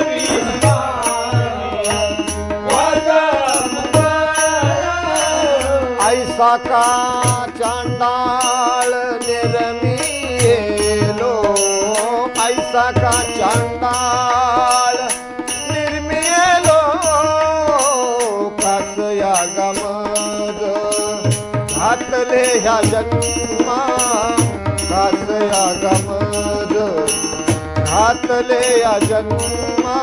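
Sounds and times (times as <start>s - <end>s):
harmonium melody: 0.0s - 30.0s
man singing: 0.0s - 30.0s.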